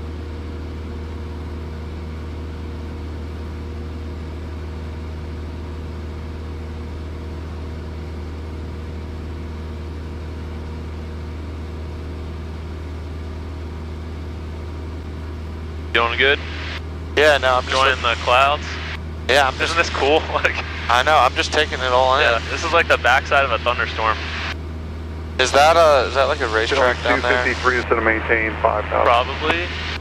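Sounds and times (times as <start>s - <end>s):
propeller plane engine drone: 0.0s - 30.0s.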